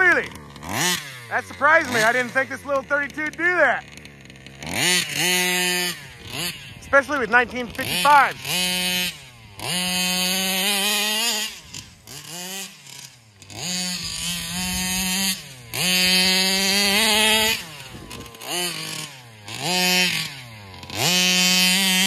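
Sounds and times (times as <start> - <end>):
model car engine revving: 0.0 - 22.0.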